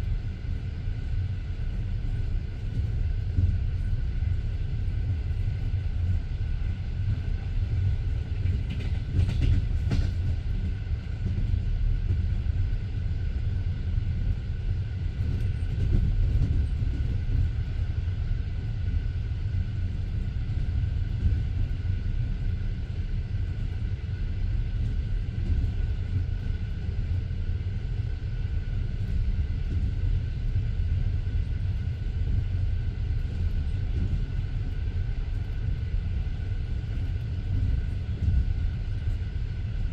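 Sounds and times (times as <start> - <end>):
train carriage rattle: 0.0 - 39.9
train wheels rumbling on rails: 0.0 - 39.9.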